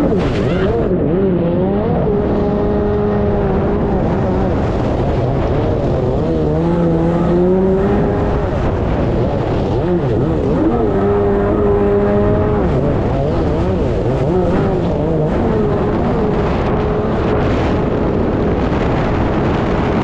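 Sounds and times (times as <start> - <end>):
jet ski engine running hard: 0.0 - 20.0
rushing water and wind: 0.0 - 20.0.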